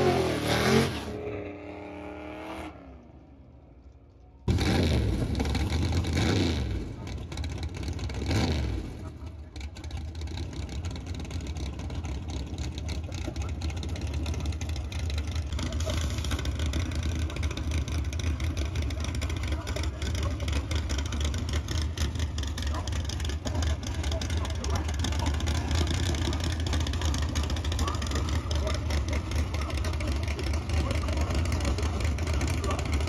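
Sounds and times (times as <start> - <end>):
racing car engine surges: 0.0 - 33.0
low engine rumble: 2.9 - 33.0.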